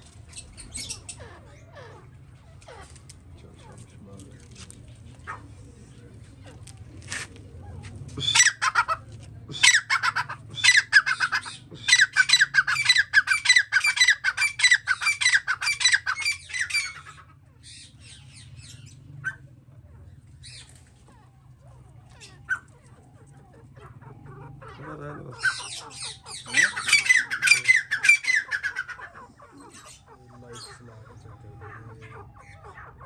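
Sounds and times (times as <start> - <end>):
caged birds squawking: 0.0 - 33.0.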